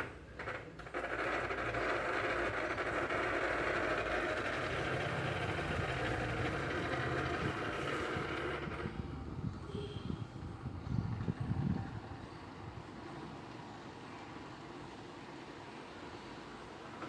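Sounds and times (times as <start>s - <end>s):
electric fan whirring: 0.0s - 17.0s.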